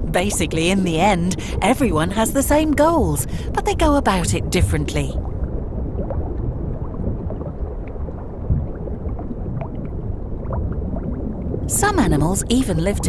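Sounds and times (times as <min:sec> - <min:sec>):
faint underwater clicks and crackles: 0:00.0 - 0:13.0
low underwater rumble: 0:00.0 - 0:13.0.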